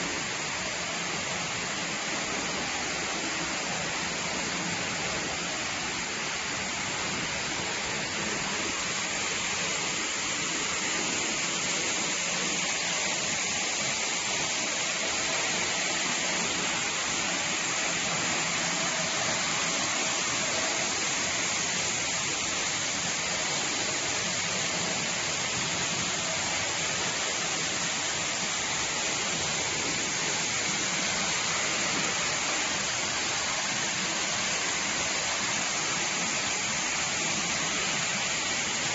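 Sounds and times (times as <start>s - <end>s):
machinery running with steady hiss: 0.0s - 38.9s.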